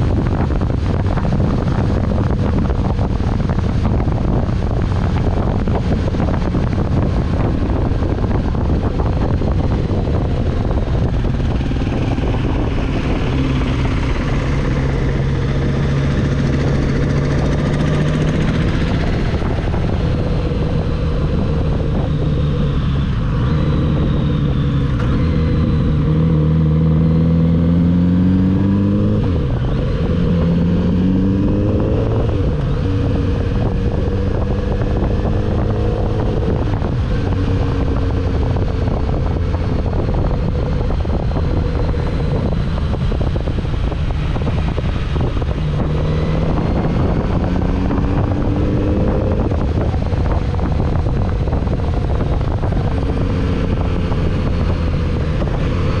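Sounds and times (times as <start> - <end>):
motorcycle engine accelerating: 0.0 - 56.0
wind rush: 0.0 - 56.0.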